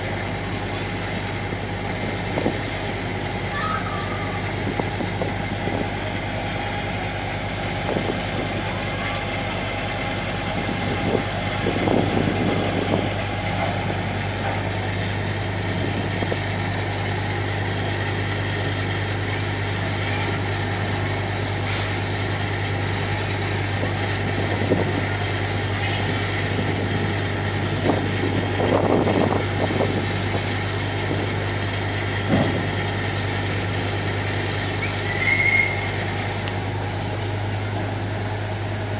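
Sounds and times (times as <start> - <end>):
ferry engines humming: 0.0 - 38.9.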